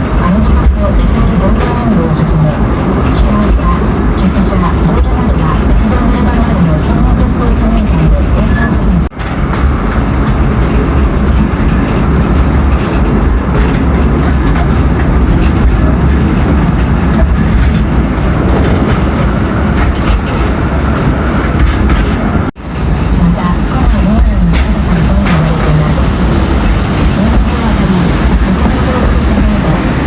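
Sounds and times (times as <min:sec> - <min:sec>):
train running on track: 0:00.0 - 0:30.0.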